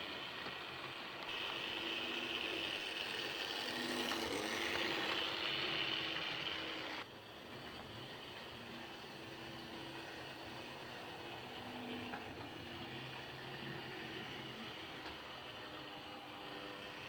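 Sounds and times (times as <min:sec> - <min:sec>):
model train motor hum: 0:00.0 - 0:17.0
model train wheels rumbling: 0:00.0 - 0:17.0.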